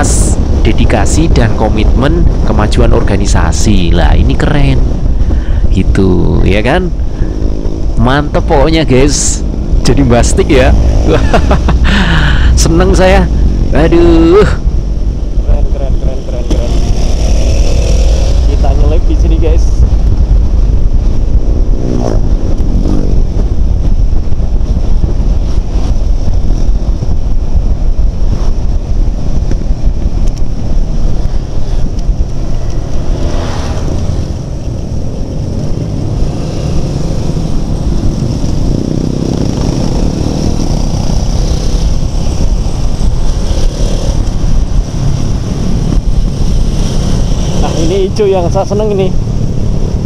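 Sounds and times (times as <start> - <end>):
motorcycle engines droning: 0.0 - 50.0
wind buffeting microphone: 0.0 - 50.0.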